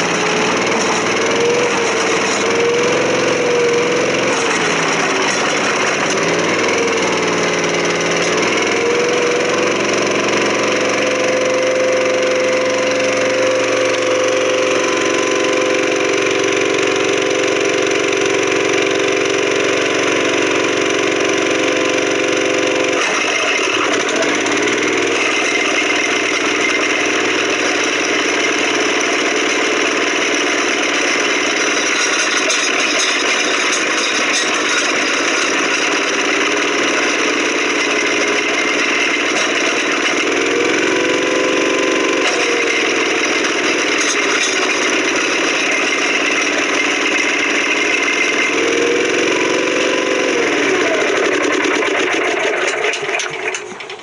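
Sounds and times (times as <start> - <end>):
trencher engine running: 0.0 - 54.0.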